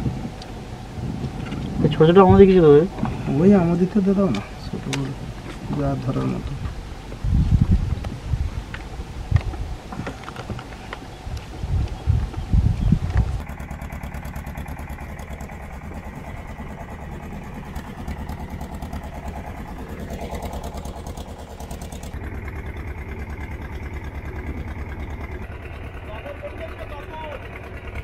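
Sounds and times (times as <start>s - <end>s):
boat engine chugging: 0.0s - 28.0s.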